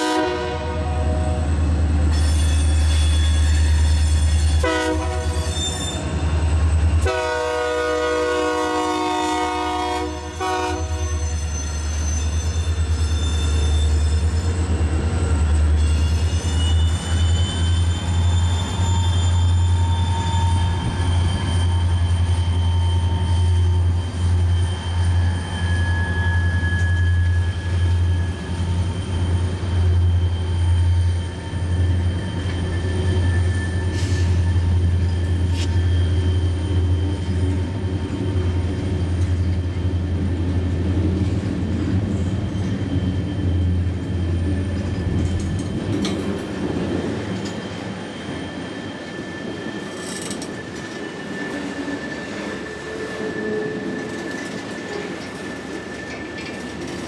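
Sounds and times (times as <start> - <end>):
train wheels rumbling on rail: 0.0 - 57.0
high wheel squeal: 1.2 - 7.0, 10.8 - 39.0, 42.1 - 57.0.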